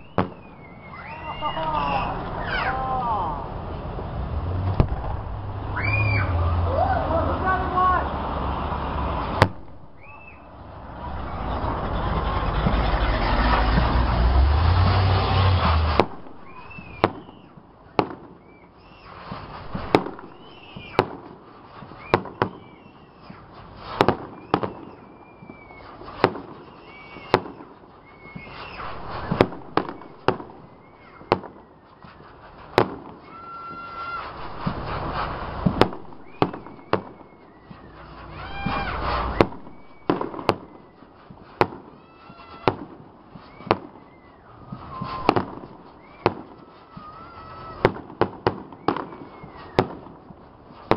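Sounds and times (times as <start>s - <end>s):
firework shells bursting: 0.0s - 2.7s, 4.3s - 6.4s, 9.2s - 50.9s
firework crackle: 0.0s - 50.9s
firework whistles: 0.0s - 50.9s.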